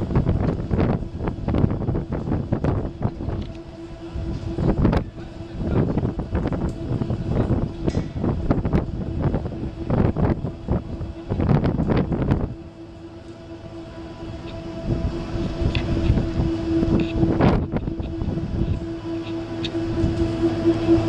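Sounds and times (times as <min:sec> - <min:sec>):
crane hoist machine hum: 0:00.0 - 0:21.0
wind buffeting microphone: 0:00.0 - 0:21.0.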